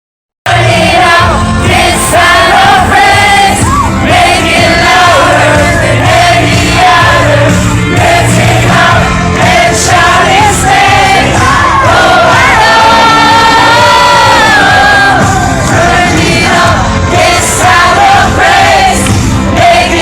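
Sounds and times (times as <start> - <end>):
steady bass line: 0.4 - 20.0
praise music with singing: 0.5 - 20.0.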